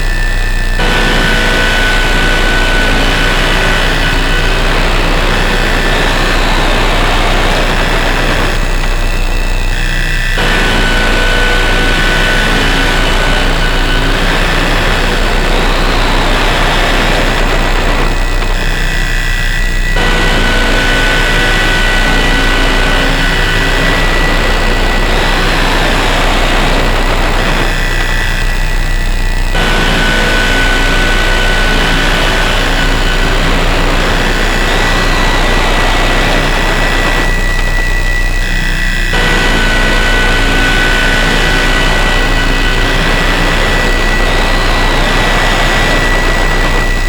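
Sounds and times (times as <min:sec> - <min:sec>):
distorted noise wall: 0:00.0 - 0:47.0
low hum: 0:00.0 - 0:47.0.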